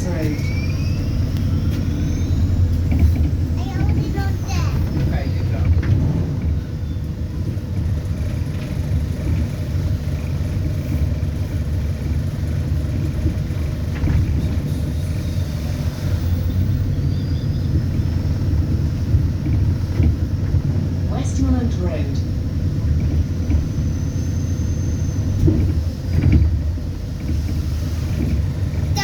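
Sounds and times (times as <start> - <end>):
bus interior low rumble: 0.0 - 29.0.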